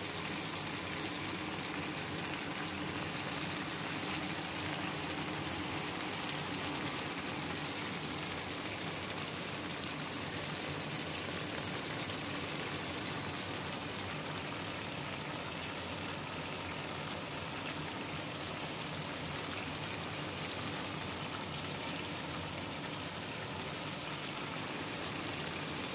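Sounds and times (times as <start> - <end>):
sauce sizzling in a frying pan: 0.0 - 25.9.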